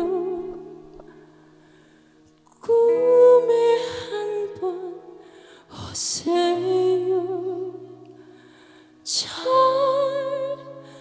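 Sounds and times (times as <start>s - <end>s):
woman singing ballad: 0.0s - 1.3s, 2.4s - 8.4s, 9.0s - 11.0s
soft musical accompaniment: 0.0s - 11.0s.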